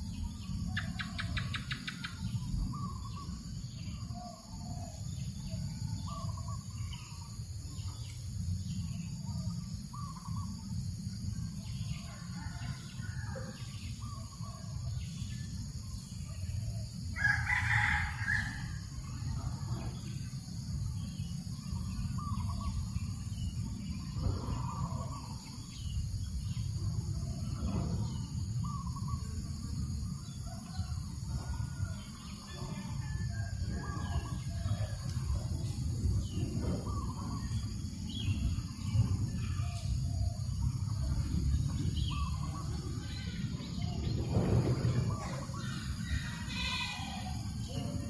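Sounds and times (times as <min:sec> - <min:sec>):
low rumble of breeze: 0:00.0 - 0:48.0.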